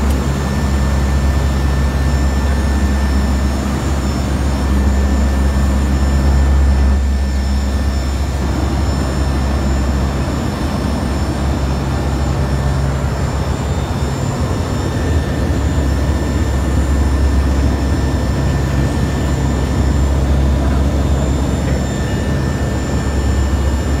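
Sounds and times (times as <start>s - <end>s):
aircraft engines droning: 0.0s - 24.0s.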